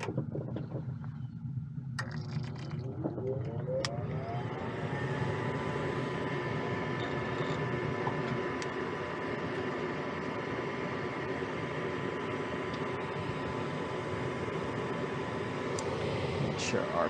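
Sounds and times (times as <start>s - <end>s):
draft inducer motor whine: 0.0s - 17.0s.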